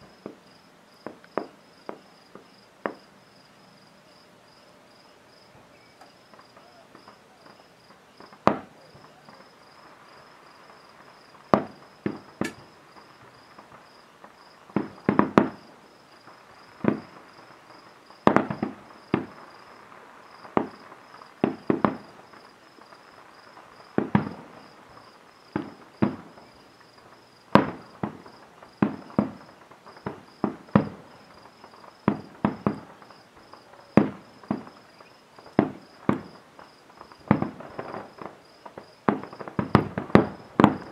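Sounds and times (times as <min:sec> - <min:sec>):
firework bangs: 0:00.0 - 0:03.4, 0:05.6 - 0:40.9.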